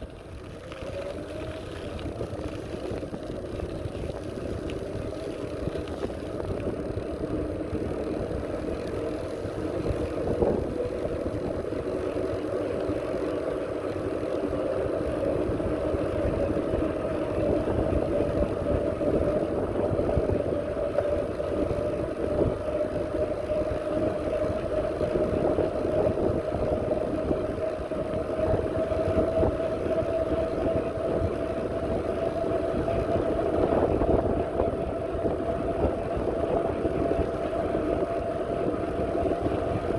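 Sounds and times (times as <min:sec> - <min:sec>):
small motor whining: 0:00.0 - 0:39.9.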